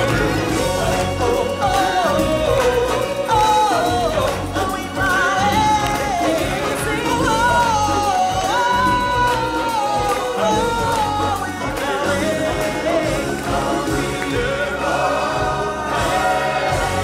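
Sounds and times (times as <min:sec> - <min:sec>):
backing band: 0:00.0 - 0:17.0.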